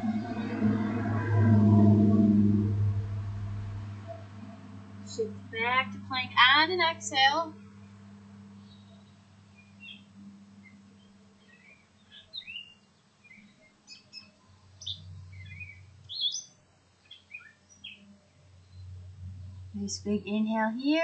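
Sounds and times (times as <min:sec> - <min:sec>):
faint low hum: 0:00.0 - 0:21.0
songbirds chirping: 0:03.7 - 0:21.0.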